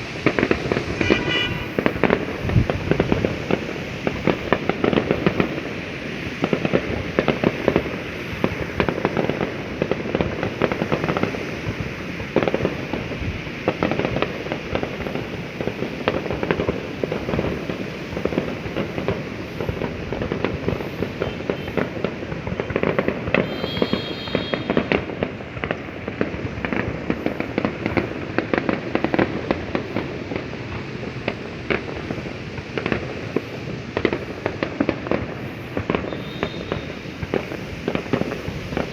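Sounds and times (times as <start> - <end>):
firework whistle: 0.0 - 38.9
fireworks popping and banging: 0.0 - 38.9.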